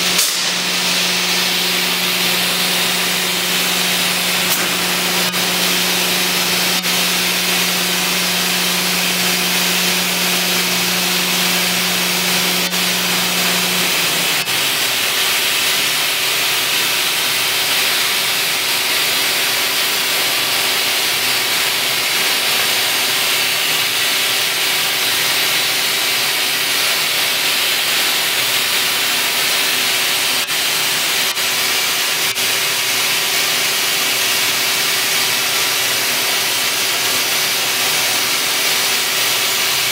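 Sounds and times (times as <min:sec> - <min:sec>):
machine hissing: 0:00.0 - 0:39.9
steady machine hum: 0:00.0 - 0:39.9.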